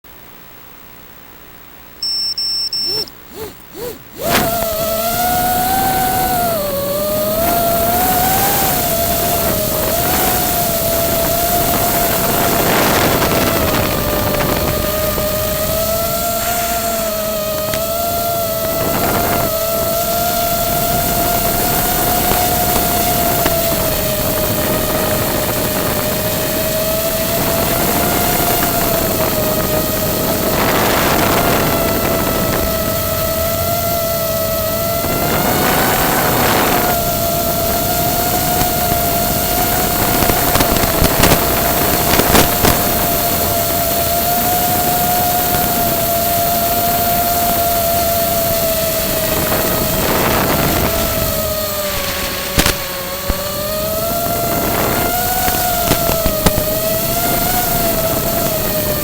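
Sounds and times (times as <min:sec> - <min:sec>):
short rushing bursts: 0:02.0 - 0:46.5, 0:47.2 - 0:58.7
drone propellers whining: 0:02.0 - 0:59.0.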